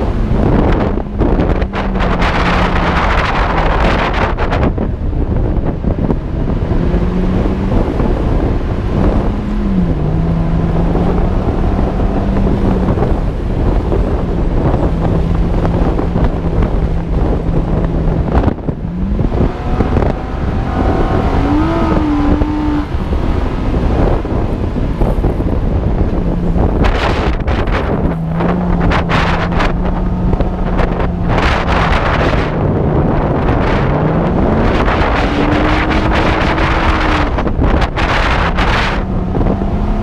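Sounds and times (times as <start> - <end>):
car engine running under load: 0.0 - 40.0
wind rumble on microphone: 0.0 - 40.0.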